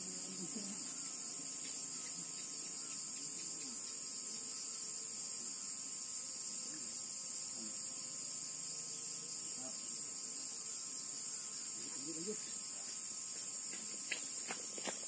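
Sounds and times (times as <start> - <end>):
thin steady tones: 0.0 - 14.9
night insects buzzing: 0.0 - 15.0.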